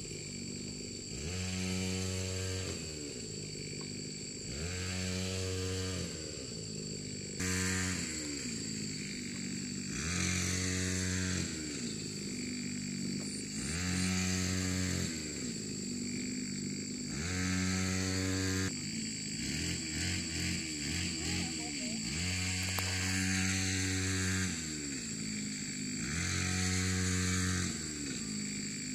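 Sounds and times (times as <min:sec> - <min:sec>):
small engine revving: 0:00.0 - 0:28.9.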